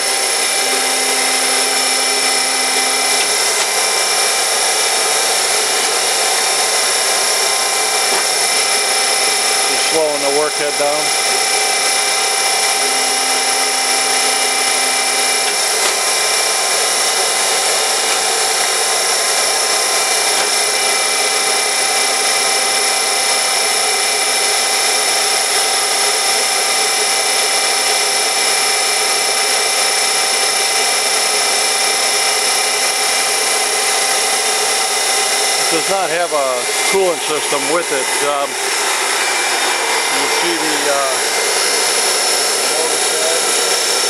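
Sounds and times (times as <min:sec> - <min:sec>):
grinding spindle high-pitched whine: 0:00.0 - 0:44.0
hydraulics hum: 0:00.0 - 0:44.0.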